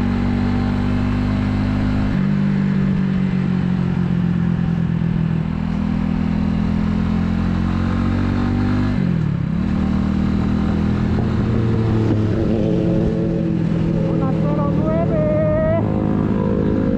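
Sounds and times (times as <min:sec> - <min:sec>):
motorcycle engine running: 0:00.0 - 0:16.9
road and wind noise: 0:00.0 - 0:16.9.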